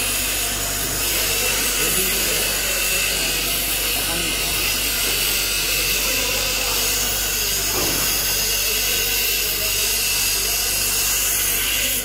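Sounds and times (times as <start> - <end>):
welding transformer humming: 0.0 - 12.0
workshop hiss: 0.0 - 12.0.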